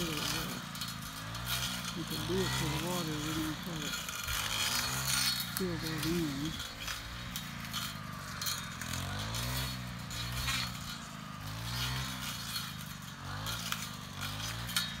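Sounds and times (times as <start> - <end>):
sharp crackles: 0.0 - 15.0
small gasoline engine revving: 0.0 - 15.0.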